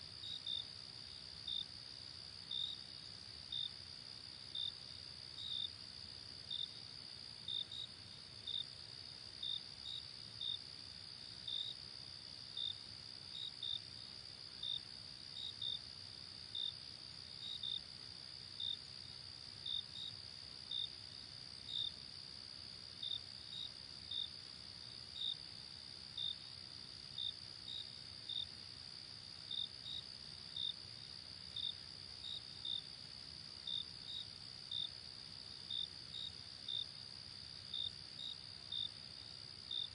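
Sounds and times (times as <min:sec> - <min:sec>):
cricket chirps: 0:00.0 - 0:39.9.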